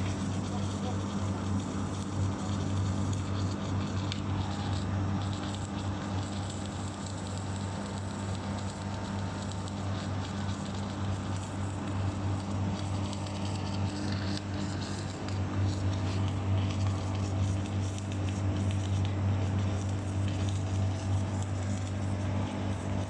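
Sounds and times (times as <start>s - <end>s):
electrical hum: 0.0s - 23.0s
welding arc crackling: 0.0s - 23.0s.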